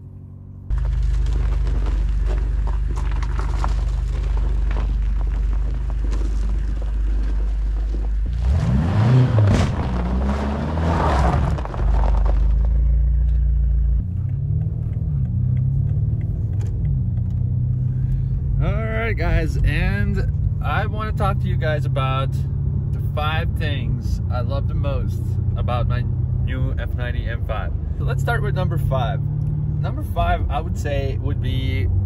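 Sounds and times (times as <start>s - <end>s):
car engine idling and revving: 0.0s - 32.0s
tires rushing on snow: 0.7s - 32.0s.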